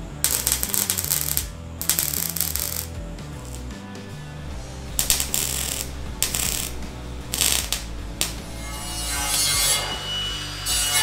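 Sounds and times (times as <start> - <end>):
welding arc crackling: 0.0 - 9.9
background music: 0.0 - 11.0.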